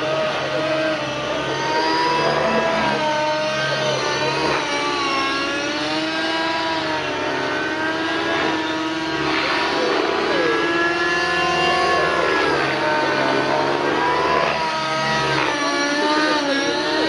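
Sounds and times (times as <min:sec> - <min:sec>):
model helicopter engine high revs: 0:00.0 - 0:17.0.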